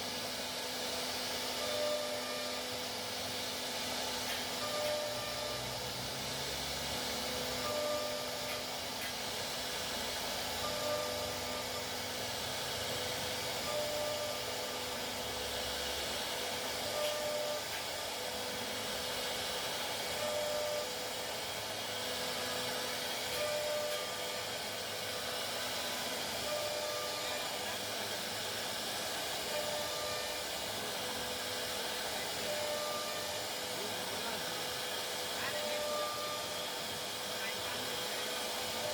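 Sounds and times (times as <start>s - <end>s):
cnc router whirring: 0.0s - 38.9s.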